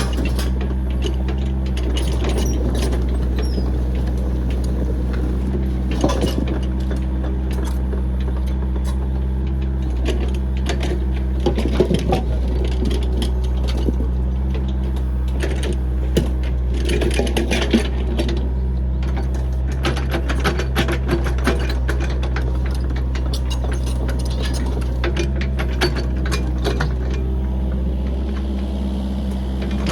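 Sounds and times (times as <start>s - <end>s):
metallic clanks and rattles: 0.0s - 28.7s
diesel engine running: 0.0s - 29.9s.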